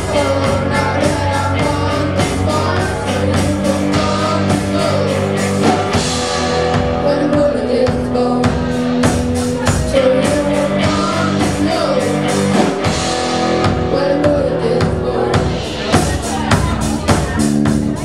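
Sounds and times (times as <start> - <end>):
drum kit beat: 0.0 - 18.0
electric guitars: 0.0 - 18.0.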